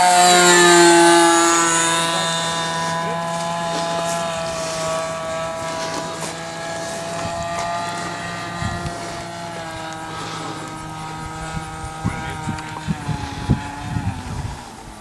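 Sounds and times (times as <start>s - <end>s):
model airplane motor droning: 0.0s - 15.0s.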